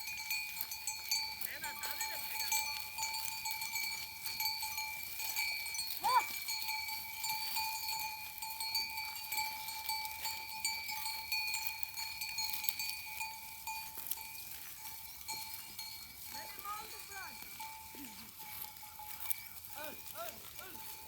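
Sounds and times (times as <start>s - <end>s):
livestock bells clinking: 0.0s - 21.0s.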